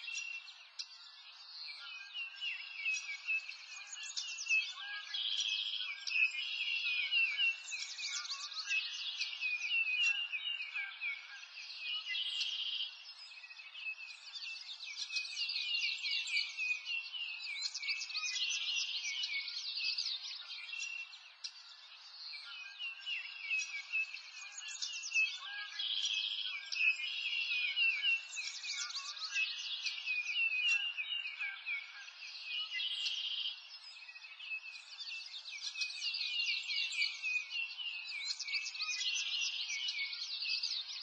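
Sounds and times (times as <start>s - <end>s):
birds chirping and twittering: 0.0s - 41.0s.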